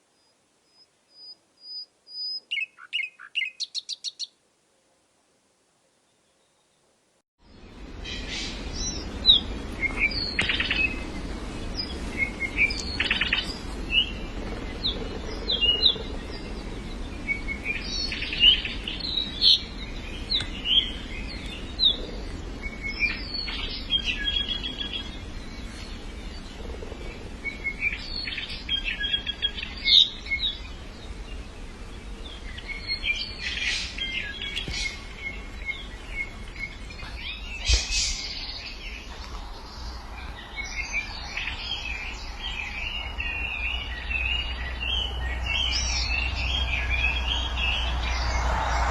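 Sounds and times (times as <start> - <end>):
small songbirds chirping: 0.0 - 4.4, 6.0 - 48.9
low background rumble: 7.4 - 48.9.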